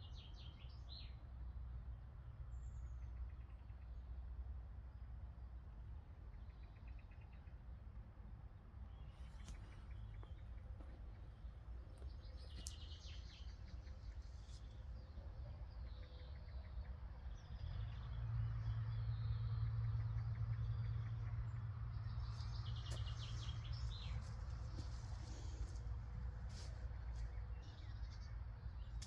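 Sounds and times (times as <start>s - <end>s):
songbirds chirping: 0.0s - 29.0s
low steady rumble: 1.2s - 29.0s.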